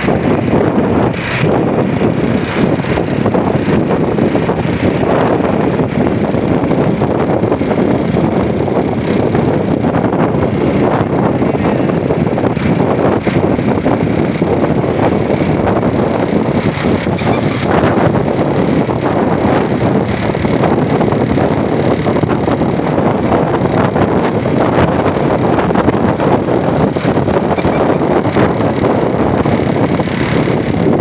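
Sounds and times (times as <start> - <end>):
diesel bus engine running: 0.0 - 31.0
wind rumbling on microphone: 0.0 - 31.0.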